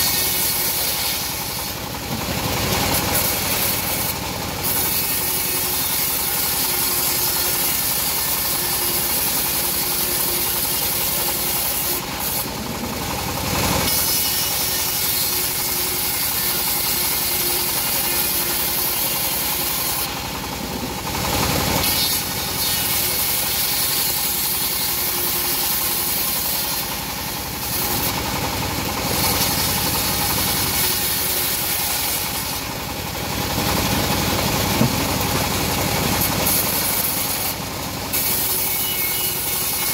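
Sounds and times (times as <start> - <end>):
bandsaw blade cutting wood: 0.0 - 39.9
engine drone: 0.0 - 39.9.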